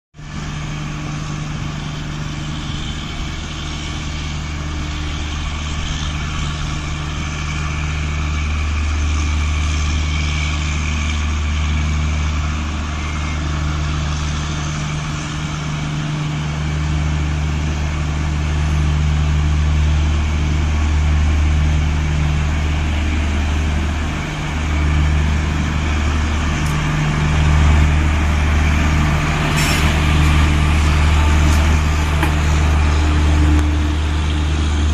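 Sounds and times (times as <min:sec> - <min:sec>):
electric locomotive humming: 0:00.2 - 0:34.9.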